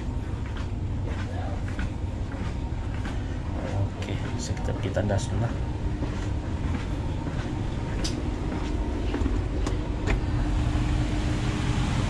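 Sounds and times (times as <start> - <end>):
steady hum: 0.0 - 12.0
train rumble inside carriage: 0.0 - 12.0.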